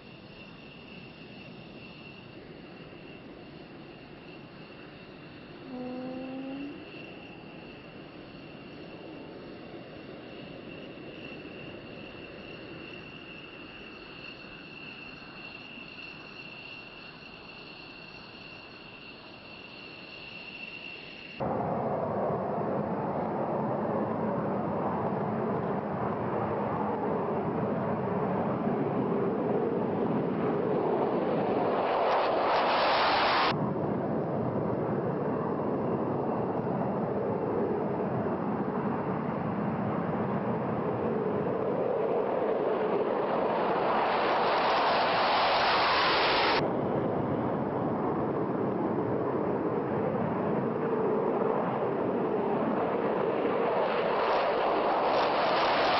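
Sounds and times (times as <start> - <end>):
jet engine noise: 0.0 - 55.9.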